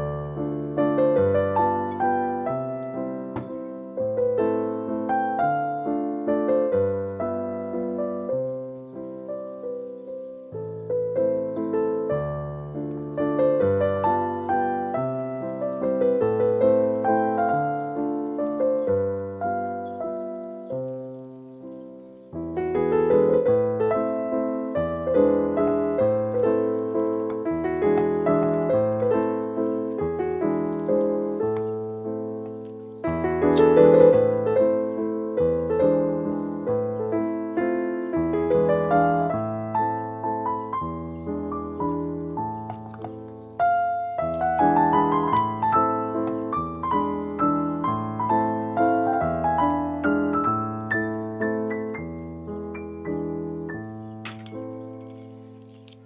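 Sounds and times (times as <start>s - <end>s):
gentle piano music: 0.0s - 56.0s.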